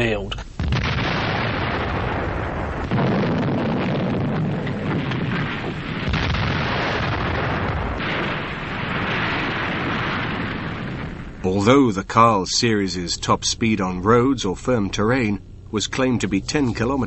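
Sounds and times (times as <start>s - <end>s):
rumble of heavy shelling: 0.4s - 17.0s.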